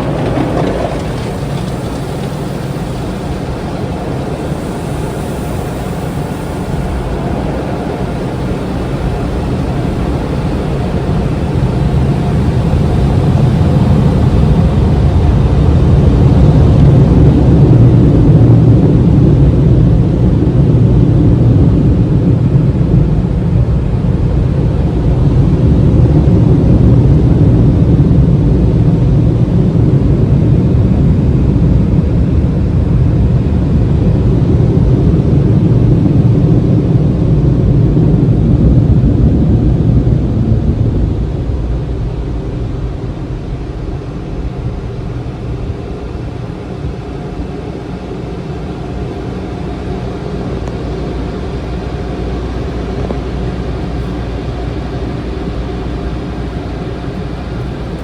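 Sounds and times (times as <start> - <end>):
car wash water and machinery rumbling: 0.0 - 58.0.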